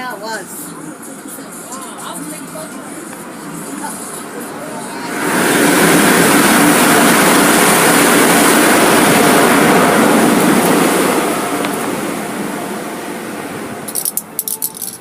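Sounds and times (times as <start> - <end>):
car wash equipment rushing: 1.8 - 14.3.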